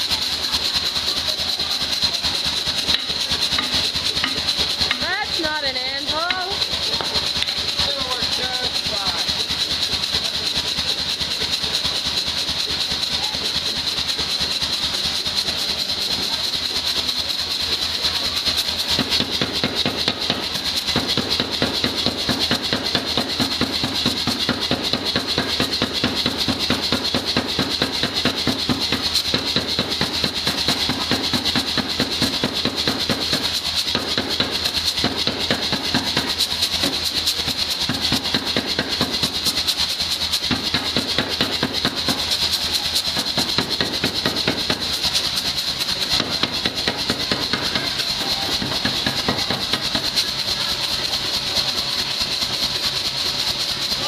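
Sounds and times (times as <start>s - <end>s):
hammer blows on hot steel: 1.3s - 52.0s.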